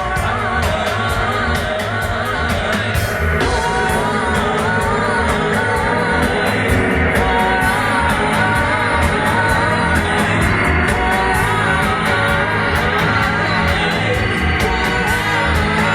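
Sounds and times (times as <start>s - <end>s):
heavy bass line: 0.0s - 15.9s
reggae band playing: 0.0s - 15.9s
steady hi-hat: 0.0s - 15.9s
wavering melody line: 0.0s - 15.9s.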